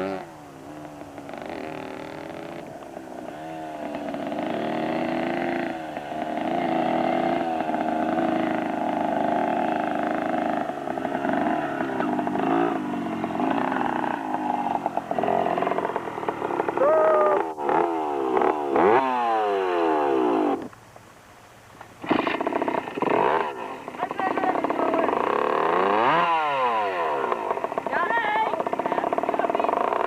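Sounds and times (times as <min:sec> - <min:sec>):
motorcycle engine revving: 0:00.0 - 0:20.8, 0:21.5 - 0:30.0.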